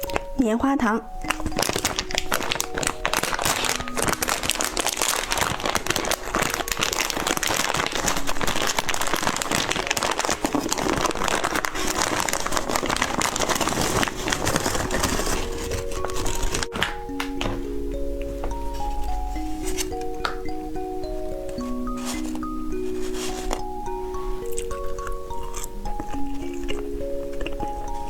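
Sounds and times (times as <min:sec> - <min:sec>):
plastic wrapper crinkling: 0:00.0 - 0:00.4, 0:01.0 - 0:28.0.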